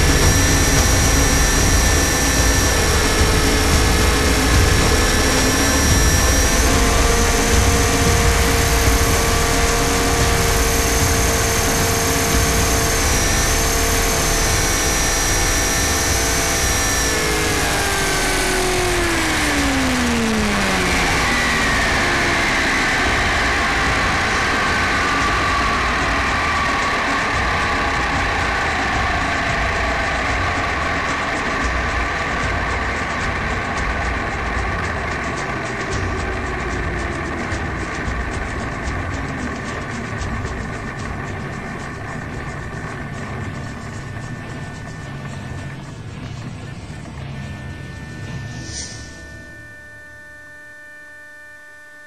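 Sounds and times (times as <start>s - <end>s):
low rumble: 0.0s - 50.6s
model helicopter motor whine: 0.0s - 52.0s.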